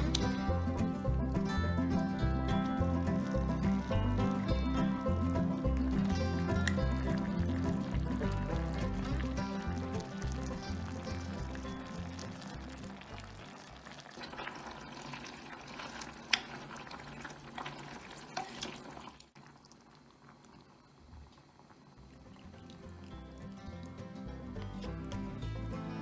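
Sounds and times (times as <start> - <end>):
food sizzling in a pot: 0.0 - 26.0
water poured into pot: 2.8 - 24.7.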